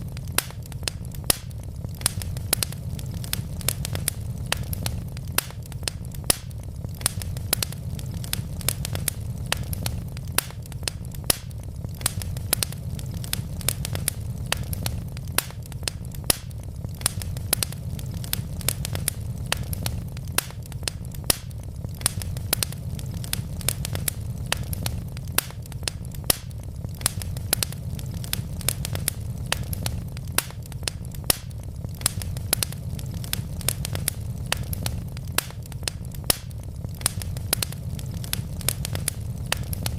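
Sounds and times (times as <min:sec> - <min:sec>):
logs crackling in fireplace: 0:00.0 - 0:39.9
low rumble of flames: 0:00.0 - 0:39.9.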